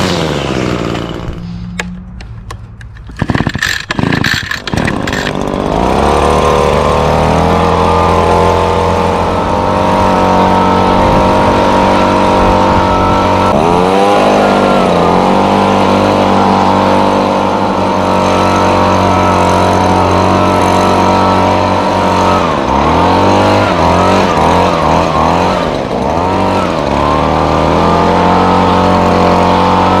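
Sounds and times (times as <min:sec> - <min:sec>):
leaf blower engine running: 0:00.0 - 0:30.0.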